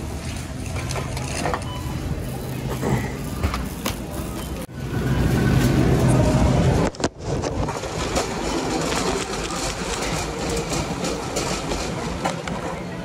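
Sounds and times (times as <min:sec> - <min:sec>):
vehicle rumbling in motion: 0:00.0 - 0:12.9.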